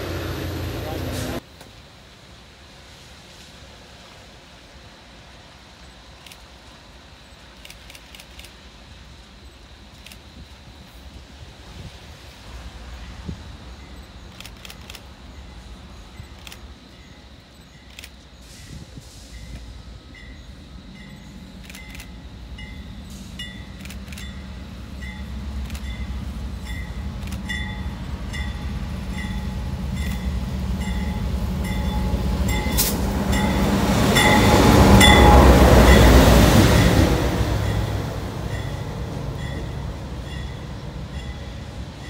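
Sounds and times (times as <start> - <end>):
diesel locomotive engine rumble: 0.0 - 42.0
train wheel noise: 0.0 - 42.0.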